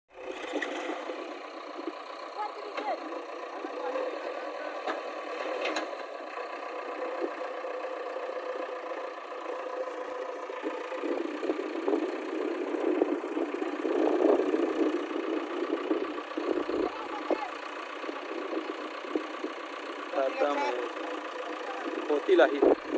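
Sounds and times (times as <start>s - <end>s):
vehicle engine running: 0.1s - 22.9s.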